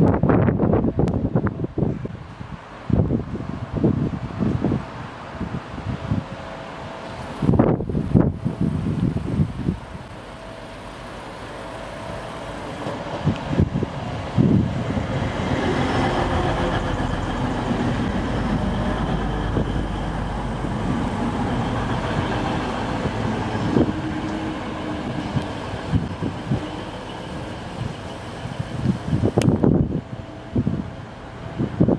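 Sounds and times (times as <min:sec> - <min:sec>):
train engine and wheel noise: 0:00.0 - 0:31.9.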